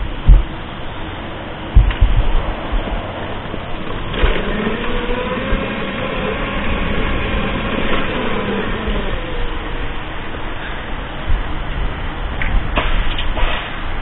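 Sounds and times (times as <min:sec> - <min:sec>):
vehicle engine running: 0:00.0 - 0:12.3.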